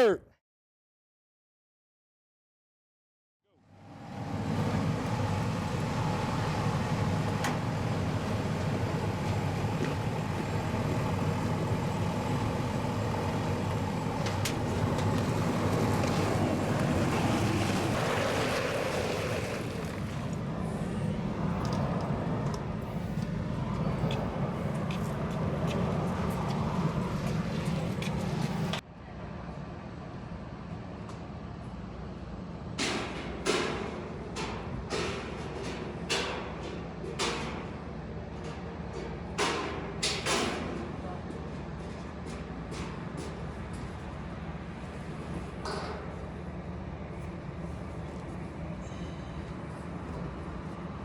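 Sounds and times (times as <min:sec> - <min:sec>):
fire engine pump running: 0:03.5 - 0:28.8, 0:31.4 - 0:51.0.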